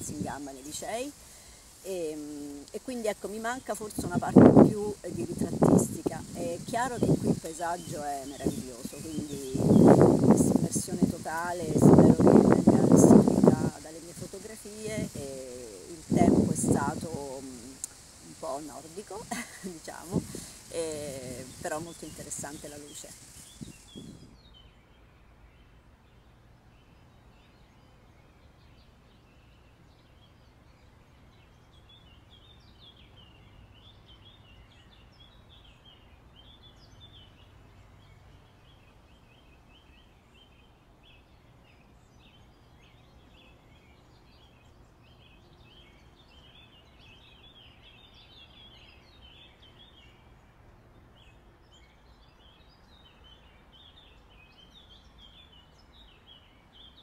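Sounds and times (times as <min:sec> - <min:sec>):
small birds twittering: 0:00.0 - 0:57.0.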